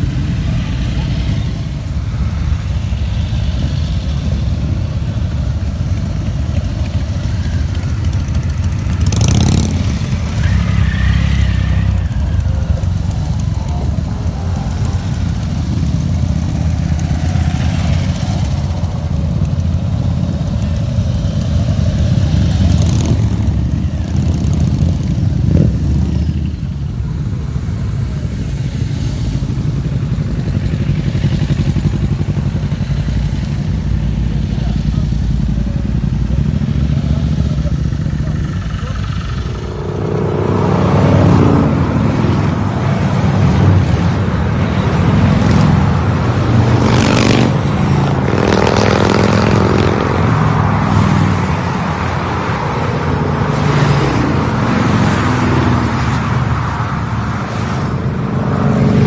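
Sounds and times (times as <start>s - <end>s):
motorcycle engines rumbling: 0.0s - 59.0s.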